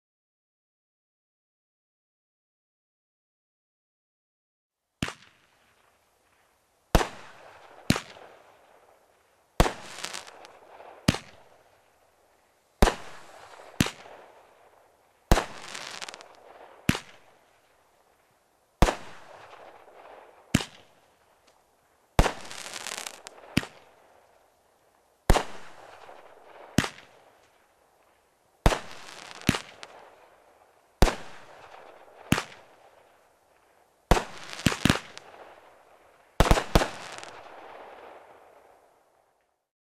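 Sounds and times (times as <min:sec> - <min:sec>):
firework bangs with hissing tails: 0:05.0 - 0:39.0.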